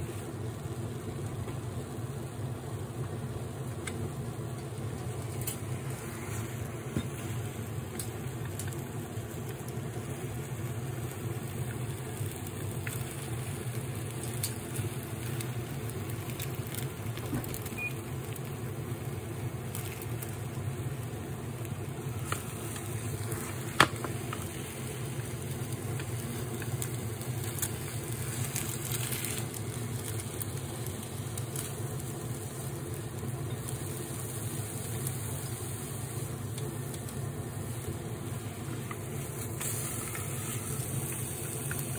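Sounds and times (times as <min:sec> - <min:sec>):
egg hissing in pan: 0:00.0 - 0:41.9
induction hob humming: 0:00.0 - 0:41.9.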